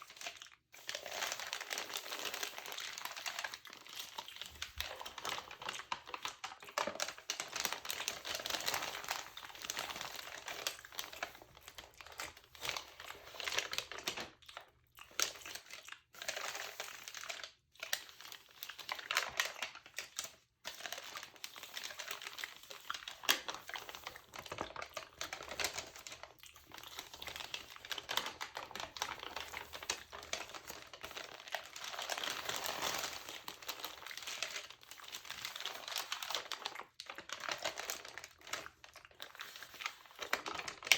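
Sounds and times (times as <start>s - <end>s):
magazine pages crinkling: 0.0s - 14.6s, 16.3s - 40.9s.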